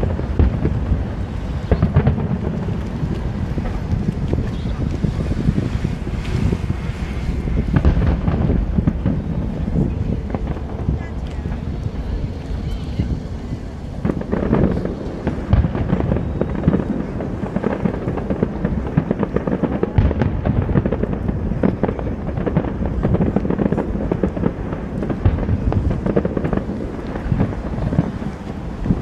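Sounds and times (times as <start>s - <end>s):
fireworks bangs and crackling: 0.0s - 29.0s
heavy fireworks booms: 0.0s - 29.0s.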